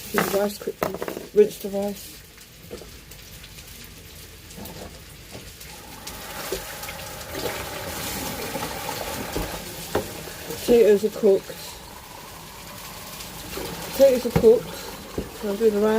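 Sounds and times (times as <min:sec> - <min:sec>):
tap water running: 0:00.0 - 0:15.9.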